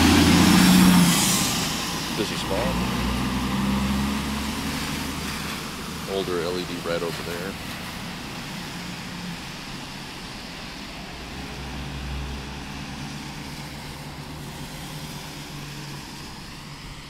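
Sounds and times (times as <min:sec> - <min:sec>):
traffic noise: 0:00.0 - 0:17.0
vehicle engine hum: 0:00.0 - 0:17.0.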